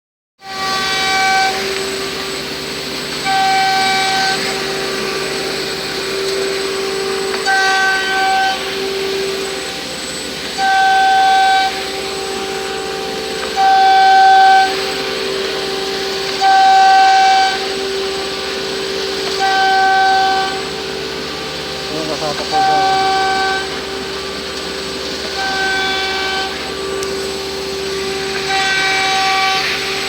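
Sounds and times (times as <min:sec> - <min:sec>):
cnc router whine: 0:00.4 - 0:30.0
high-pitched machining tone: 0:00.4 - 0:30.0.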